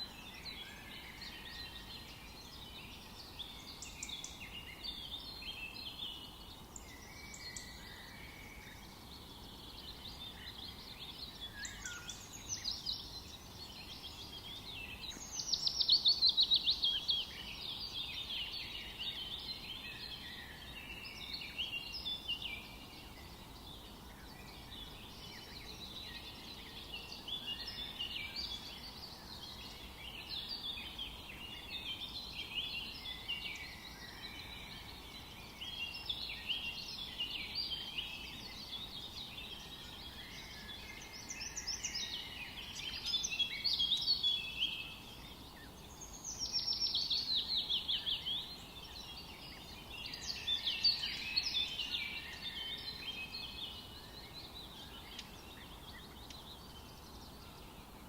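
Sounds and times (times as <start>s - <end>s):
faint background hiss: 0.0s - 58.0s
songbirds singing: 0.0s - 58.0s.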